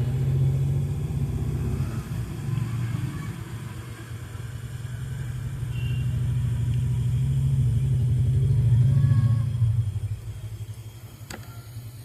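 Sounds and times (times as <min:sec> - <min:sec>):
hot-air gun humming: 0:00.0 - 0:12.0.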